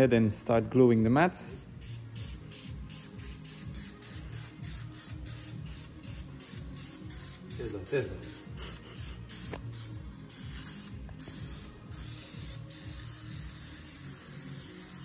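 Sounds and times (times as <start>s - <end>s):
aerosol spray hissing: 1.6s - 15.0s.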